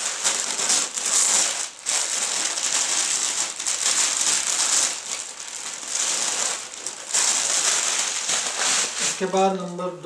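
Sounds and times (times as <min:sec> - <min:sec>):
fabric rustling: 0:00.0 - 0:09.7.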